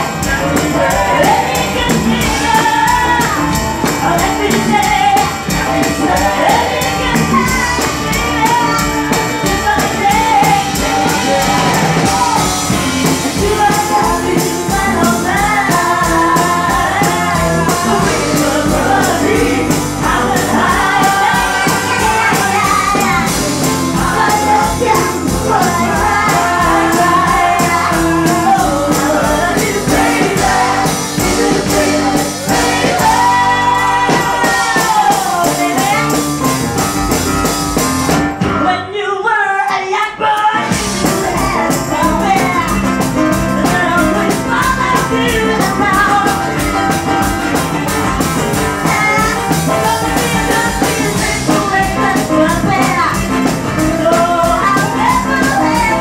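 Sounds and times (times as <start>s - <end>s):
woman singing: 0.0s - 36.2s, 38.4s - 47.0s, 48.8s - 56.0s
backing singers: 0.0s - 56.0s
pop-soul band playing: 0.0s - 56.0s.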